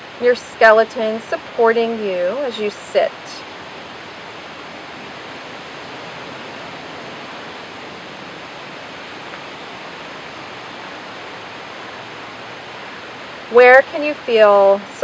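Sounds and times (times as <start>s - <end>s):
outdoor ambience rushing noise: 0.0s - 15.0s.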